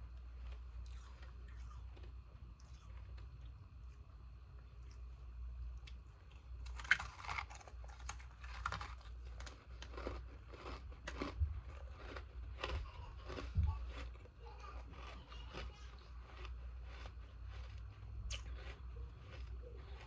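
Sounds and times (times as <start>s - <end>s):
crunching and chewing ice: 0.1s - 3.5s, 5.8s - 20.0s.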